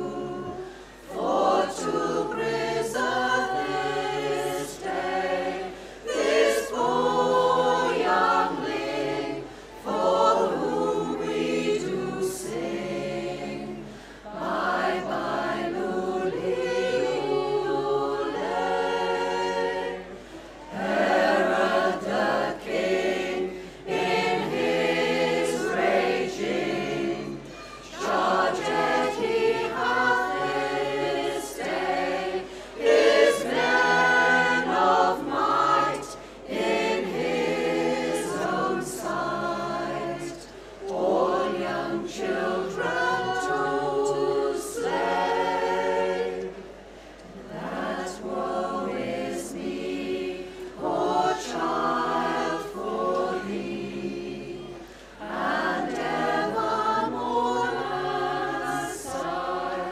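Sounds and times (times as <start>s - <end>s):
women's choir singing a cappella: 0.0s - 59.9s.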